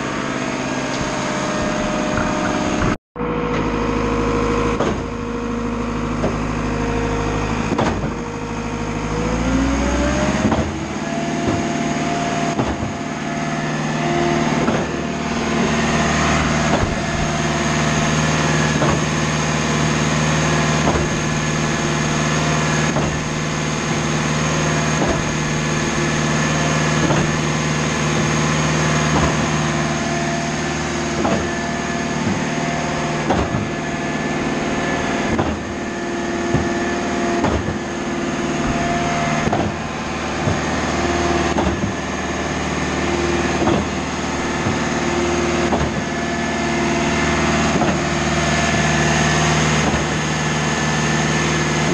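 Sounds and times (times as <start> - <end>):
pump engine running: 0.0 - 51.9
pump knocking: 4.7 - 8.5, 9.1 - 51.9.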